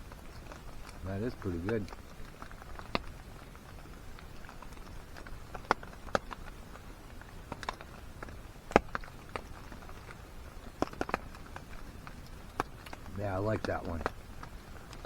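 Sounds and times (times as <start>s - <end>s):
faint steady rain hiss: 0.0s - 15.0s
sharp ticks and pops: 0.0s - 15.0s.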